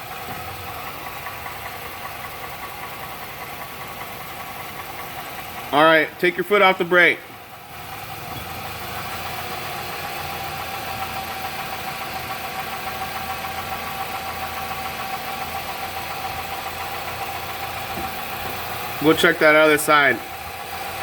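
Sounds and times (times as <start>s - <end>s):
van drivetrain running with whine: 0.0s - 21.0s.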